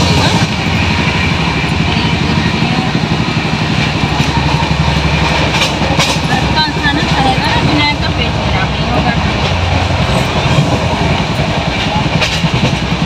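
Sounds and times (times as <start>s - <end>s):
train rumble inside coach: 0.0s - 13.0s.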